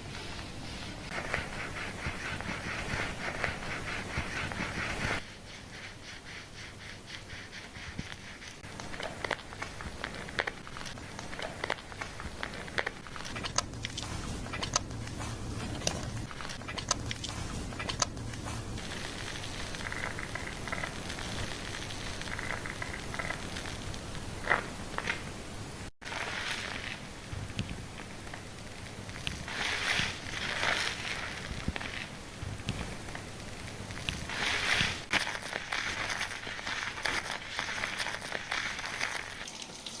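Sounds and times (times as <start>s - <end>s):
crackling foam: 0.0s - 40.0s
hands scrubbing scalp: 0.4s - 25.2s, 29.1s - 32.1s, 32.7s - 40.0s.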